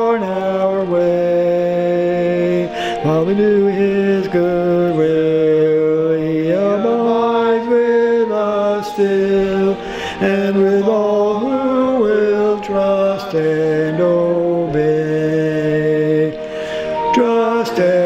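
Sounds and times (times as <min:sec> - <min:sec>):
slow hymn singing: 0:00.0 - 0:18.0.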